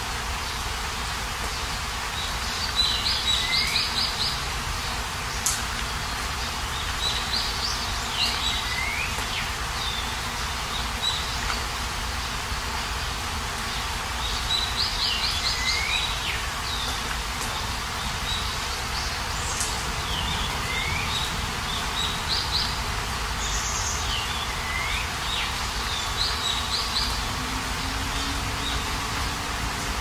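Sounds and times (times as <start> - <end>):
songbird singing: 0.0 - 30.0
steady rain: 0.0 - 30.0.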